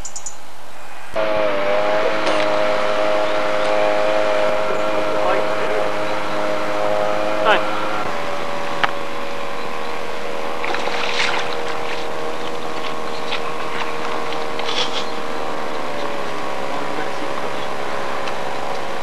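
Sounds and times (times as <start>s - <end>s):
steady hum of held tones: 1.0s - 19.0s.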